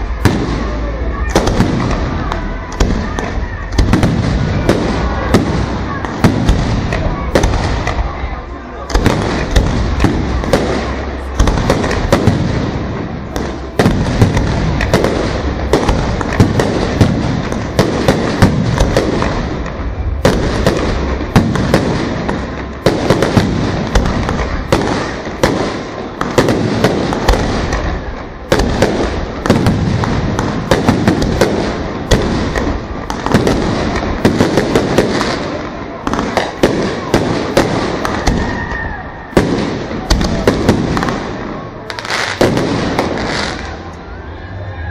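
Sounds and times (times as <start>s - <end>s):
fireworks bursting: 0.0s - 44.8s
rumbling crackle of fireworks: 0.0s - 44.9s.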